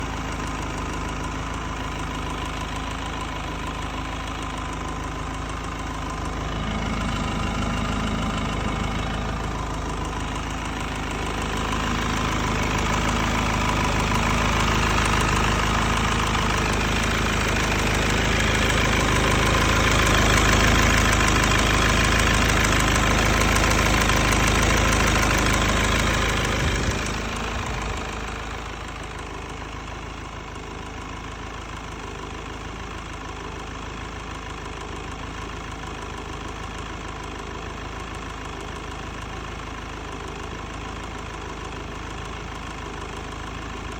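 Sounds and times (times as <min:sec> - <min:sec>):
diesel engine idling: 0:00.0 - 0:43.9
light engine ticking: 0:00.0 - 0:43.9.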